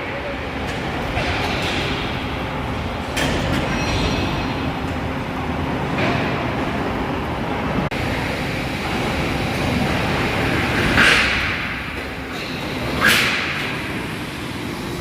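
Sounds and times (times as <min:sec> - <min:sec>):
heavy mechanical rumble: 0:00.0 - 0:15.0.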